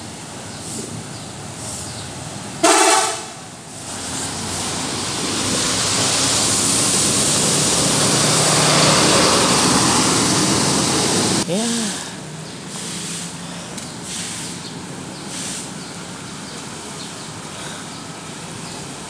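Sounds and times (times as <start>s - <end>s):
bus passing close by: 0.0s - 19.0s.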